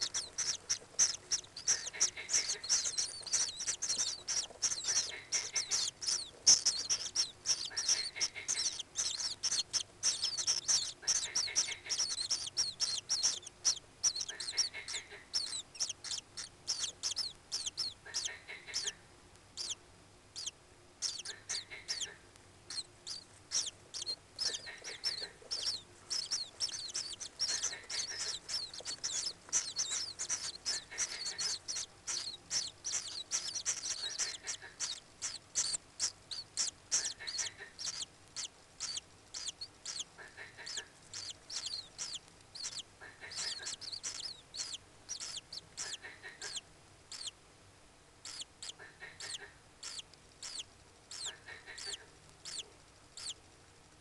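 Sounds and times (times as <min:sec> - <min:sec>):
shrill high-pitched bird chirps: 0:00.0 - 0:19.0, 0:19.6 - 0:19.8, 0:20.4 - 0:47.4, 0:48.2 - 0:53.4.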